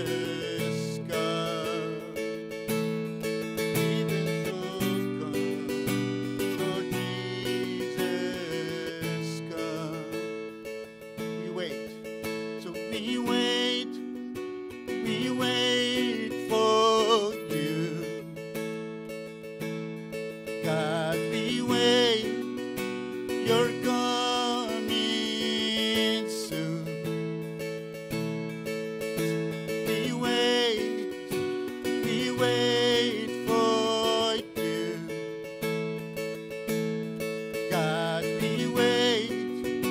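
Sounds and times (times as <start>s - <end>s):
man singing: 0.0s - 18.4s, 20.5s - 27.2s, 29.2s - 35.6s, 37.5s - 39.9s
acoustic guitar strumming: 0.0s - 39.9s.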